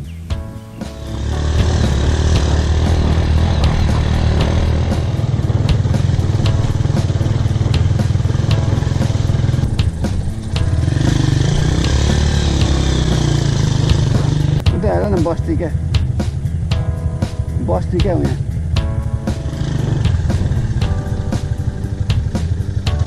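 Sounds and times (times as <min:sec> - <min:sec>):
motorcycle engine running: 0:00.3 - 0:23.0.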